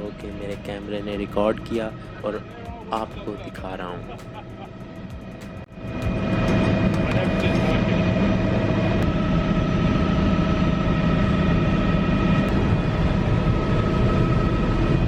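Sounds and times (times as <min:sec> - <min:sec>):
helicopter engine and rotor drone: 0:00.0 - 0:15.0
thin constant whine: 0:00.0 - 0:15.0.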